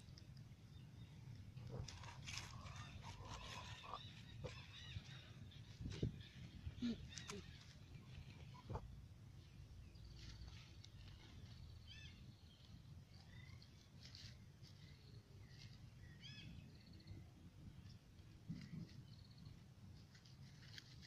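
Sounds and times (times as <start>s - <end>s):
birds chirping and trilling: 0.0s - 17.2s.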